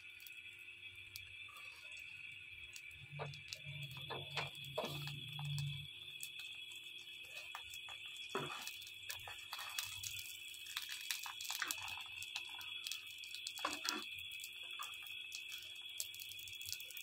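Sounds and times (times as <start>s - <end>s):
bread frying sizzle: 0.0s - 17.0s.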